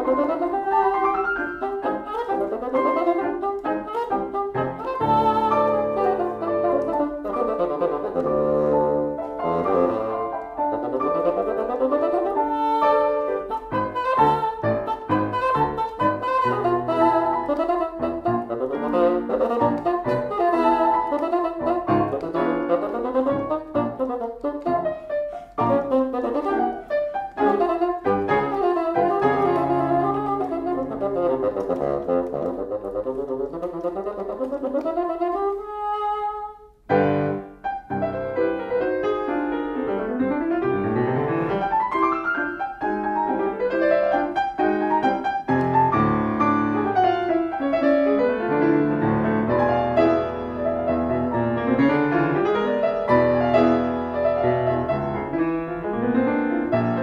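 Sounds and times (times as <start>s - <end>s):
bassoon: 0.0s - 57.0s
piano: 0.0s - 57.0s.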